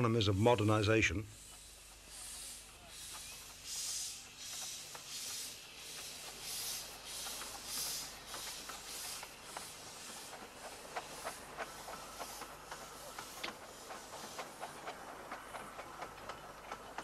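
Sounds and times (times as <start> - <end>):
steam locomotive chuffing: 0.0 - 17.0
wheels clicking over rail joints: 1.3 - 17.0.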